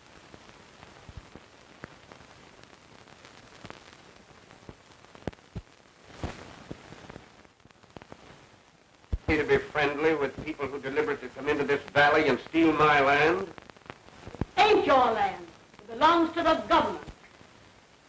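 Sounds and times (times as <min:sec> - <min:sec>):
crackles and pops: 0:00.0 - 0:18.0
film soundtrack hiss: 0:00.0 - 0:18.0.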